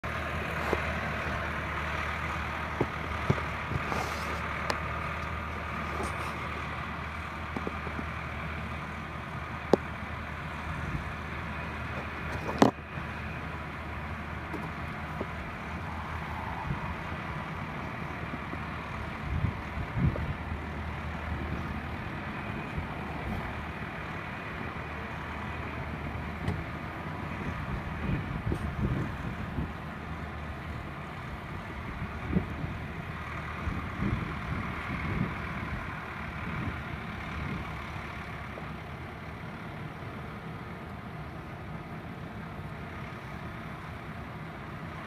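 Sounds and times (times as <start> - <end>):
tractor engine droning: 0.0 - 45.0.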